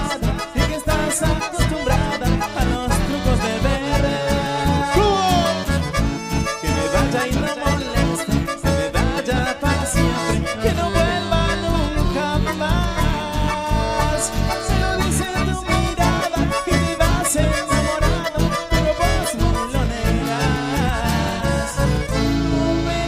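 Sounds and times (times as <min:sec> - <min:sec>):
button accordions: 0:00.0 - 0:23.0
live band playing: 0:00.0 - 0:23.0.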